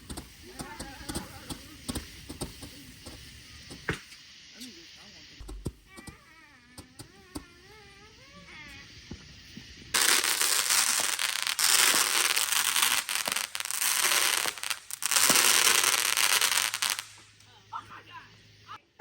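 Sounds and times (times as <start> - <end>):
fireworks crackling: 0.0 - 18.8.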